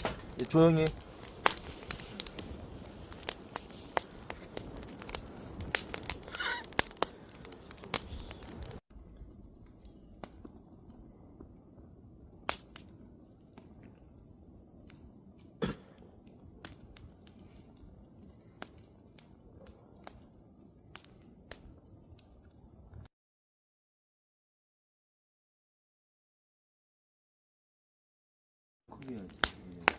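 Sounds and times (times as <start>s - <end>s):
campfire crackling: 0.0s - 23.1s, 28.9s - 29.9s.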